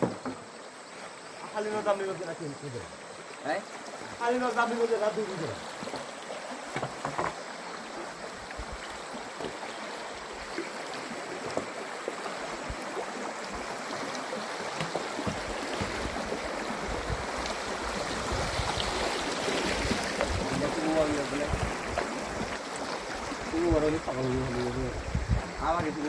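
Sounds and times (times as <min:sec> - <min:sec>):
water flowing with splashes: 0:00.0 - 0:26.0.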